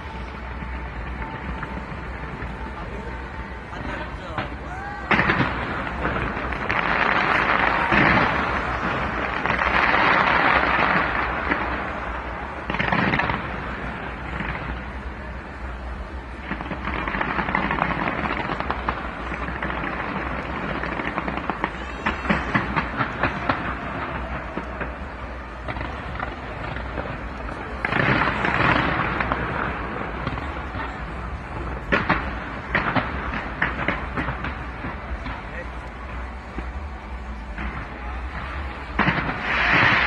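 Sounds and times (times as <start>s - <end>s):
continuous rumbling wash: 0.0s - 40.0s
fireworks bursting and crackling: 0.0s - 40.0s.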